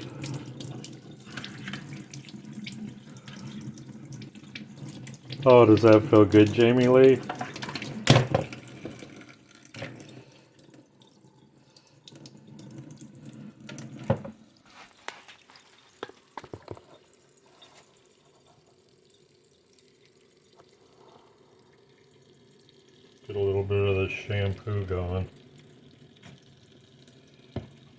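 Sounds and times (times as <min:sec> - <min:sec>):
water from tap splashing: 0:00.0 - 0:27.9.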